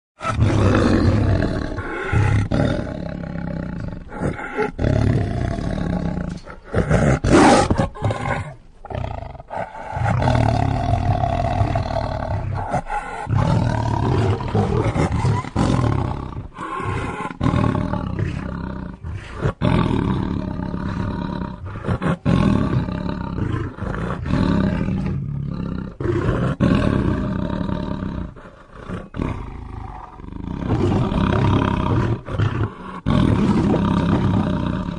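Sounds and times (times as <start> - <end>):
lion roaring and growling: 0.2 - 34.9.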